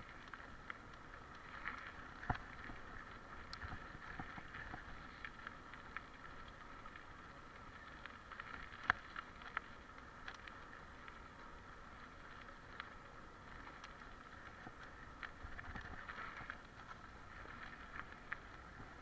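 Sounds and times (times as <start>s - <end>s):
bike tyres rolling on dirt: 0.0s - 19.0s.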